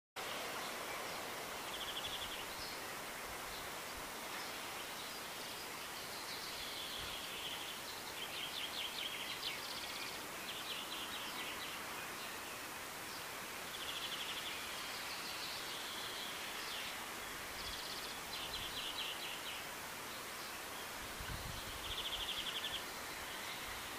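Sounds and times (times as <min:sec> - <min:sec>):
open air hiss: 0:00.2 - 0:23.9.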